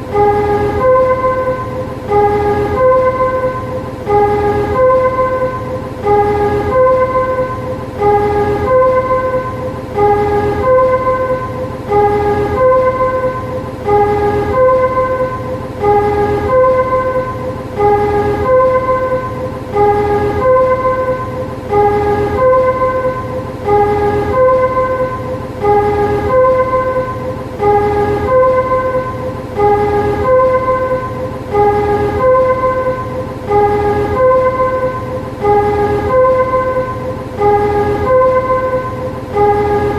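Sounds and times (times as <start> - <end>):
warning chime melody: 0.0 - 39.9.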